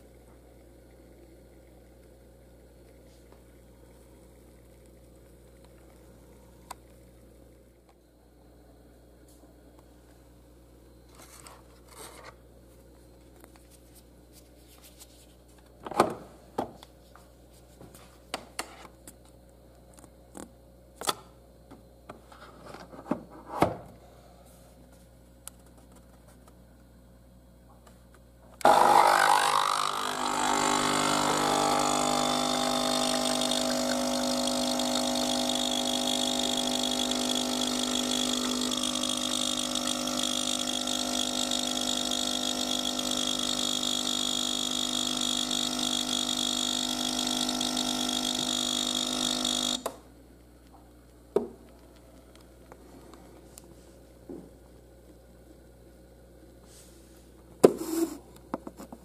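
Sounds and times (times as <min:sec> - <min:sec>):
coffee machine pump humming: 0:00.0 - 0:15.9, 0:24.0 - 0:59.0.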